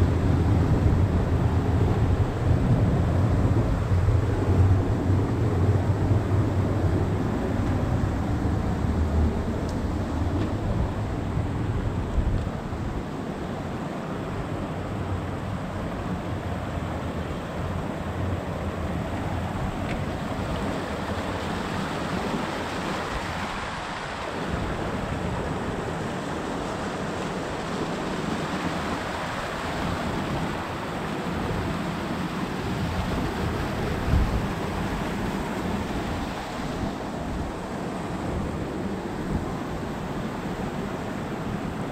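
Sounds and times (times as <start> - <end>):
stream rushing over rocks: 0.0 - 41.9
wind rumble on microphone: 0.0 - 41.9.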